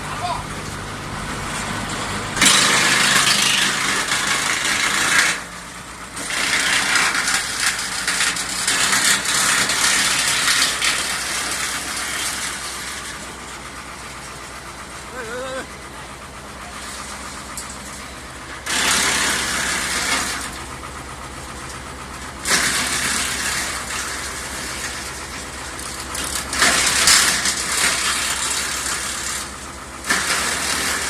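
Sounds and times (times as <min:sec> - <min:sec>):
wood chipper chipping wood: 0:00.0 - 0:31.0
wood chipper engine hum: 0:00.0 - 0:31.0.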